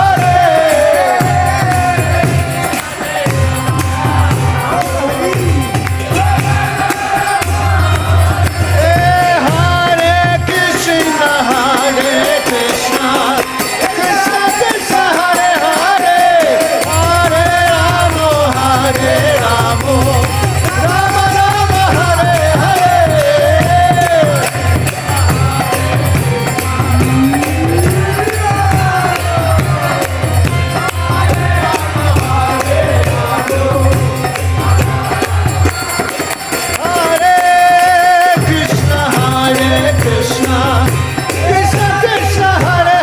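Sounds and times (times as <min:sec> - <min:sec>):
jingling percussion: 0:00.0 - 0:43.0.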